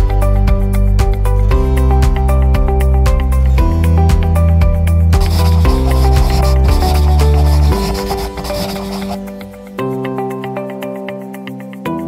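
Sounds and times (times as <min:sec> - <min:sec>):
background music with heavy bass: 0:00.0 - 0:12.0.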